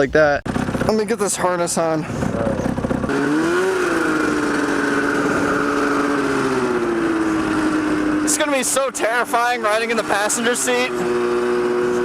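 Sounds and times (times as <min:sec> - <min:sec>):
two-stroke engine running: 0:00.5 - 0:12.0.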